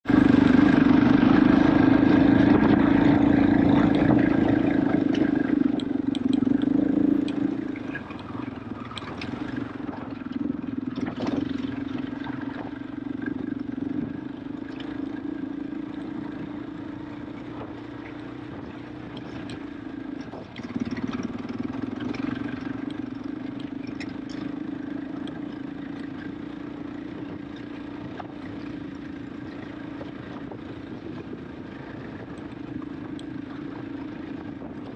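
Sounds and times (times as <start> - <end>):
motorcycle engine under throttle: 0.0 - 34.9.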